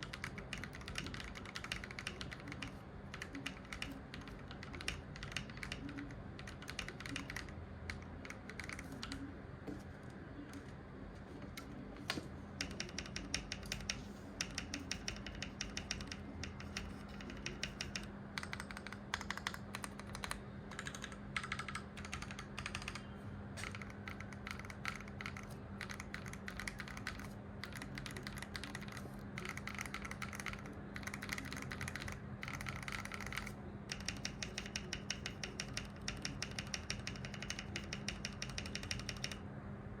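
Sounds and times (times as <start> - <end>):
mechanical keyboard typing: 0.0 - 9.2, 12.6 - 39.4.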